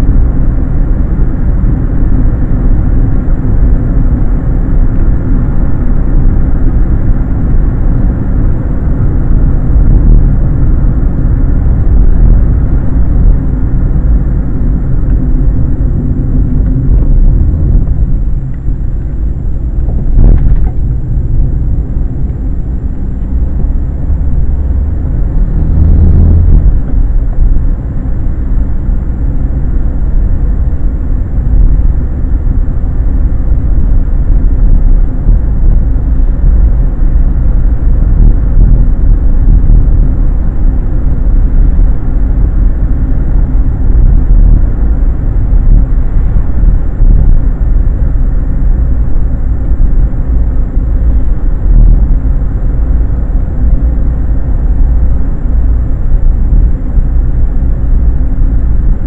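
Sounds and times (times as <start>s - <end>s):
car engine rumble inside car: 0.0s - 59.0s
road noise: 0.0s - 59.0s.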